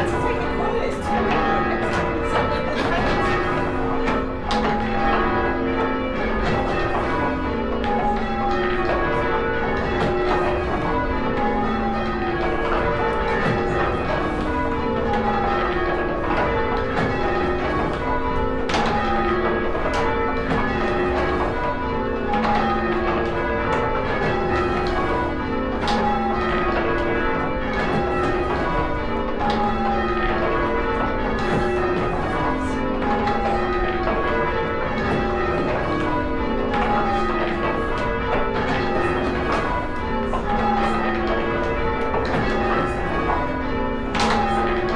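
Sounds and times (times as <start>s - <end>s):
church bells change ringing: 0.0s - 44.9s.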